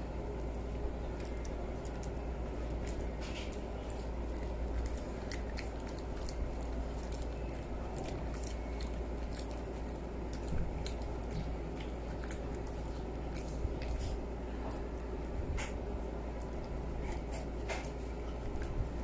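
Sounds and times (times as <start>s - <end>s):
steady low hum: 0.0s - 19.0s
dog gnawing crunching clicks: 0.5s - 15.8s, 16.4s - 18.9s.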